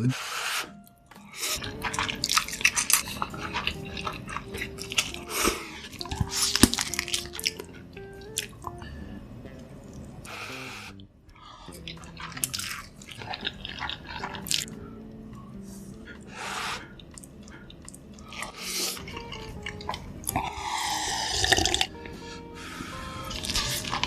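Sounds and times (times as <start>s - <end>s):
soft background music: 0.0s - 24.0s
wet chewing and mouth smacks: 0.8s - 24.0s.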